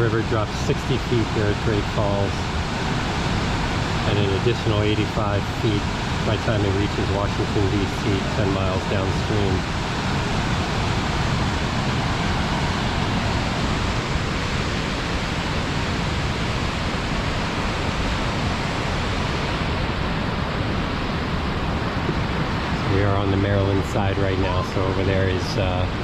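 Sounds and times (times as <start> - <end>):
river rushing over rapids: 1.2 - 26.0.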